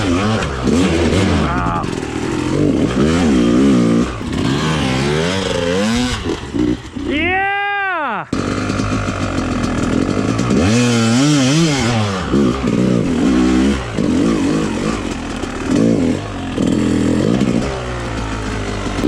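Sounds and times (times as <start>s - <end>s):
second engine running steadily: 0.0s - 7.0s, 8.4s - 19.0s
dirt bike engine revving: 0.0s - 19.0s.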